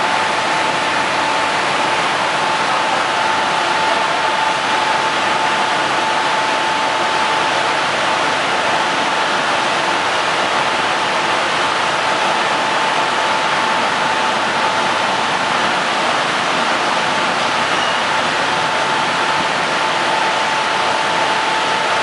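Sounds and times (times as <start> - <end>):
machinery whine: 0.0 - 22.0.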